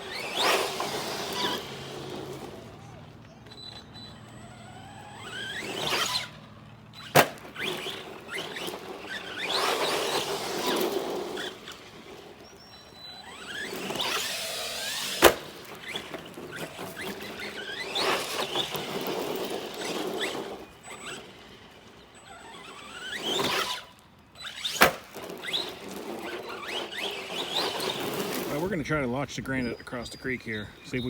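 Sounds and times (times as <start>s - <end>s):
electric motor whining: 0.0s - 31.0s.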